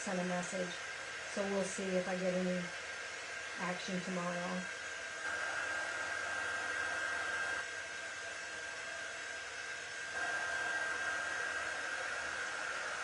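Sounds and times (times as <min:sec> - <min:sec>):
electric blower whirring: 0:00.0 - 0:13.0.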